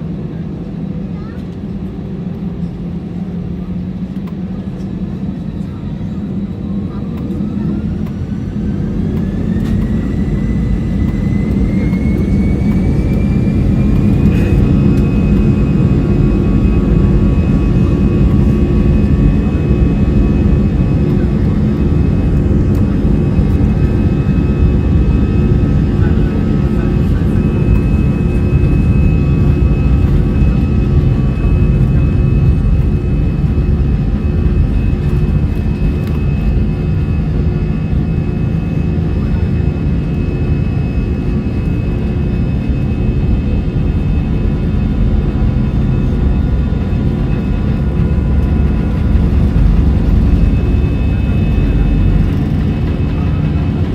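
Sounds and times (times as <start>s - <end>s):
jet engine whine: 0.0s - 53.9s
low engine rumble: 0.2s - 53.9s.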